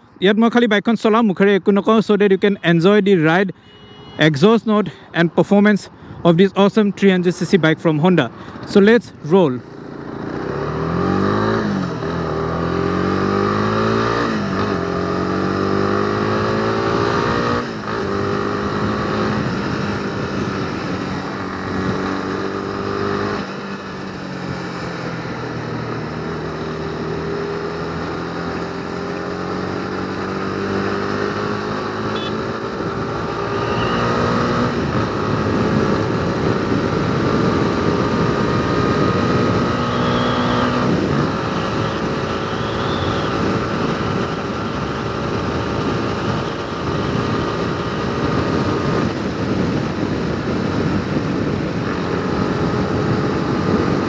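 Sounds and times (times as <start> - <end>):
motorcycle engine accelerating: 9.6 - 54.0.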